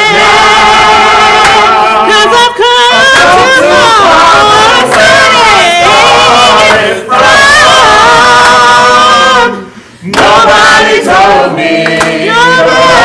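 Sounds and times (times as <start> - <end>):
gospel choir singing: 0.0 - 13.0.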